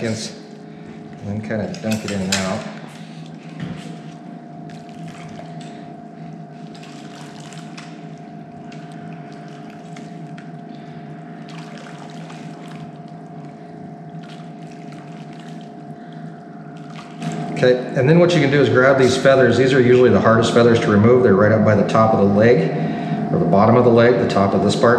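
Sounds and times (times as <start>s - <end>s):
hot water sloshing and splashing: 0.0s - 20.2s
steady hum with faint whine: 0.0s - 24.9s.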